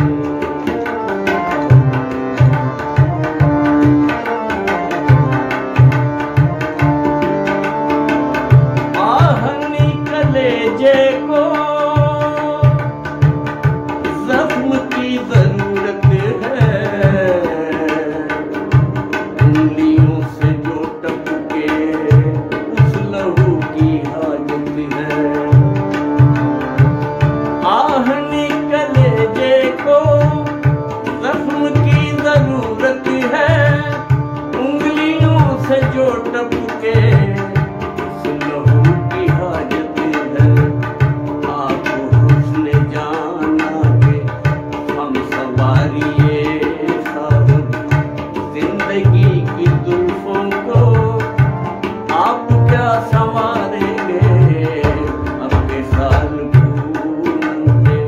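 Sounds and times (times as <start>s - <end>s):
hand drum rhythm: 0.0s - 58.0s
harmonium playing: 0.0s - 58.0s
man singing: 0.0s - 58.0s.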